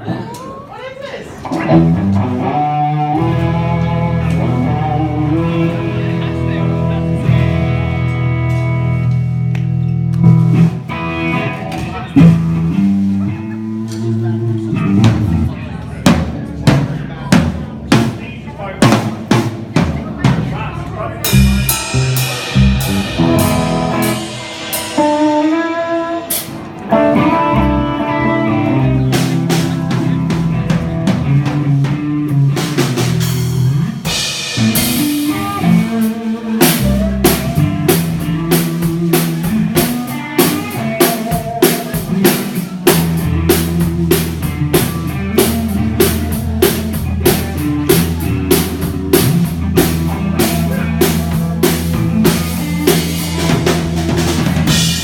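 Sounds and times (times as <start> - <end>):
electric guitar melody: 1.4 - 17.8, 21.1 - 55.0
drum kit: 1.4 - 55.0
bass line: 1.5 - 55.0.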